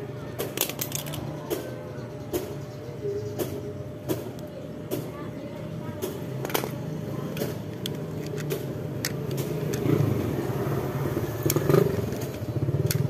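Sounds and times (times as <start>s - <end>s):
vehicle engine running: 1.2s - 13.0s.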